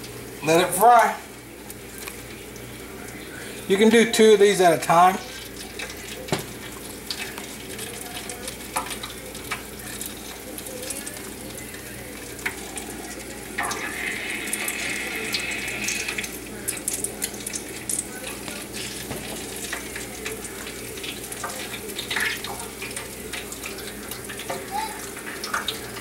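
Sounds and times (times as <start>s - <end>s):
deep-frying sizzle with pops: 0.0s - 26.0s.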